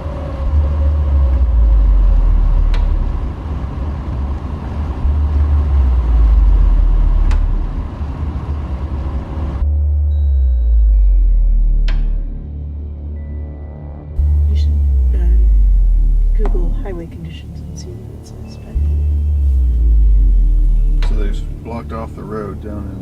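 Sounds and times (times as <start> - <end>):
car interior road rumble: 0.0 - 9.7, 14.2 - 23.0
low ominous musical drone: 0.0 - 23.0.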